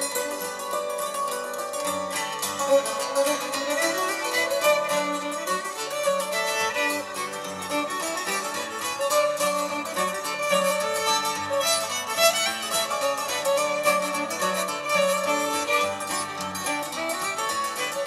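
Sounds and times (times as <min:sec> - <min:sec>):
fiddle melody: 0:00.0 - 0:18.0
hammered dulcimer notes: 0:00.0 - 0:18.0
strummed acoustic guitar: 0:00.0 - 0:18.0.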